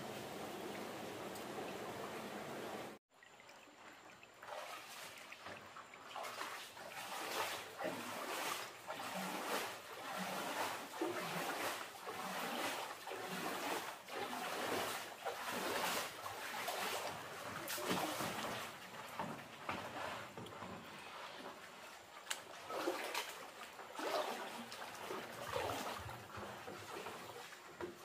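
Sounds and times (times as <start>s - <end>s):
water splashing strokes: 0.0s - 28.0s.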